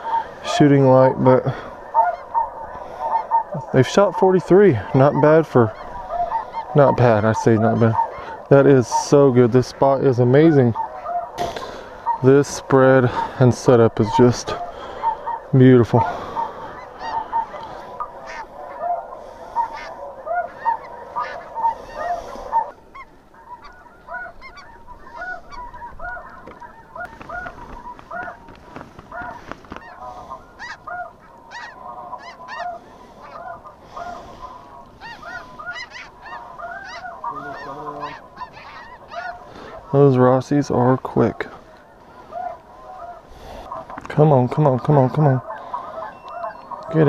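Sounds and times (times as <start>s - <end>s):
geese honking: 0.0s - 47.0s.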